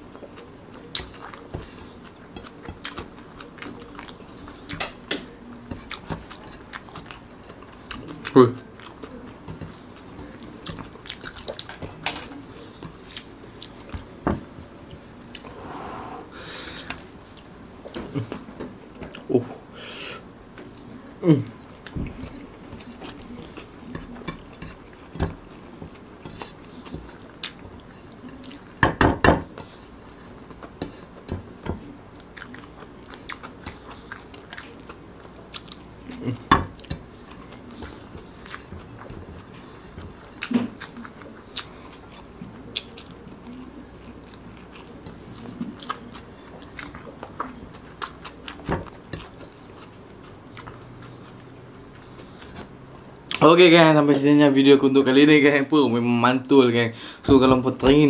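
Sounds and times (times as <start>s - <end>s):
person chewing food: 0.0s - 19.3s, 20.6s - 28.8s, 29.6s - 53.4s.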